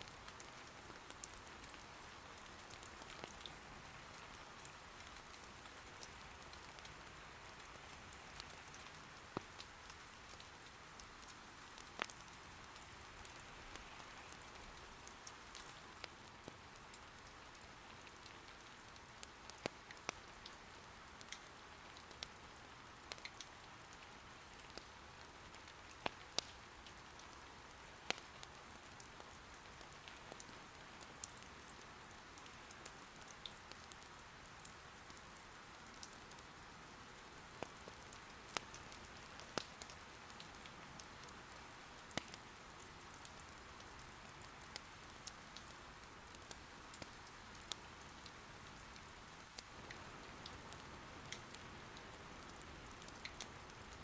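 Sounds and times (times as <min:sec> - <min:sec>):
soft rain patter: 0:00.0 - 0:54.0.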